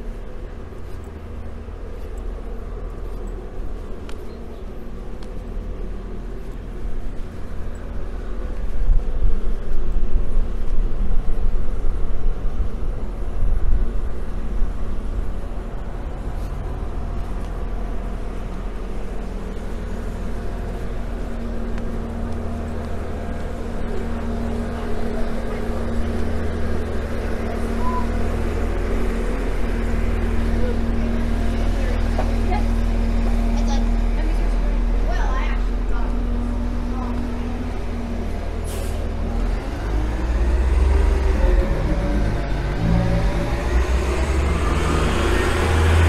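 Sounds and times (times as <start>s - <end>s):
cars passing with deep rumble: 0.0s - 46.0s.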